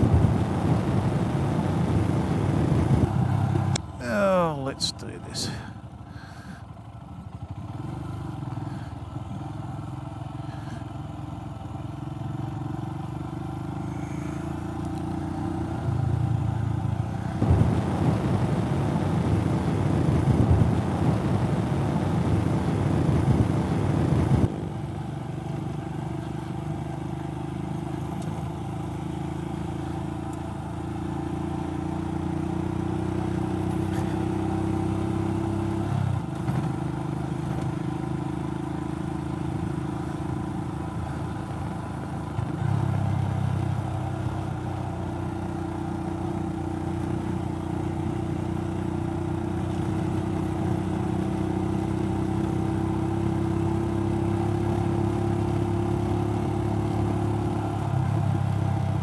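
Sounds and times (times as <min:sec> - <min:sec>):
motorcycle engine running: 0:00.0 - 0:04.4, 0:05.4 - 0:59.0.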